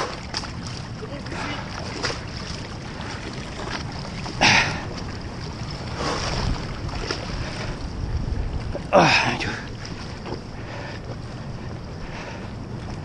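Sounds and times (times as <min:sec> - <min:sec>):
wind and water buffeting microphone: 0:00.0 - 0:13.0.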